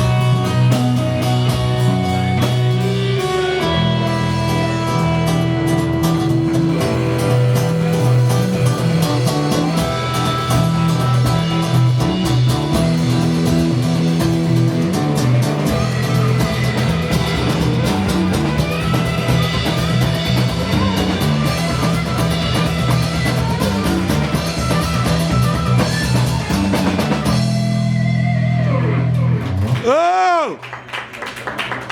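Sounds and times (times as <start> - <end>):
low bass line: 0.0 - 29.8
drums keeping beat: 0.0 - 30.0
electric guitar: 0.0 - 30.4.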